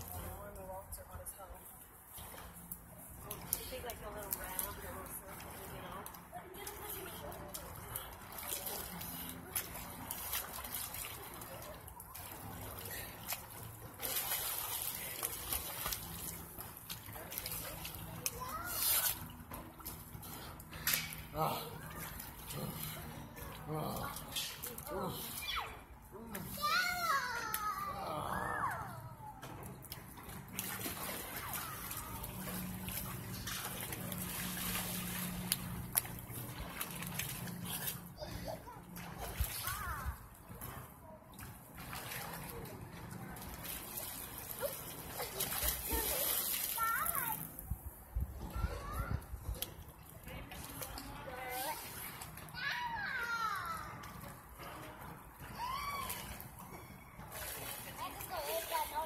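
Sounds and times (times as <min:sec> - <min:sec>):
swimmer kicking splashing: 0:00.0 - 0:47.7, 0:49.5 - 0:59.0
pool water sloshing and trickling: 0:00.0 - 0:59.0.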